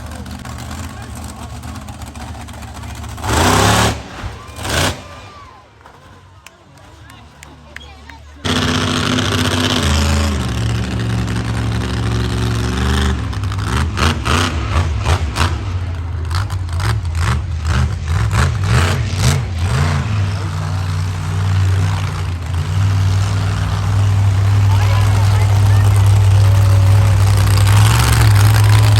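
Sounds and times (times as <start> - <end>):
engine bangs: 0.0 - 28.9
monster truck engine revving: 0.0 - 28.9.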